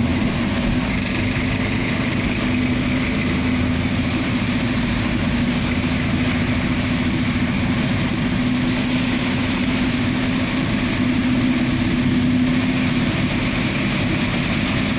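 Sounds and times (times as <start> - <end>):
heavy rain on car roof: 0.0 - 14.9.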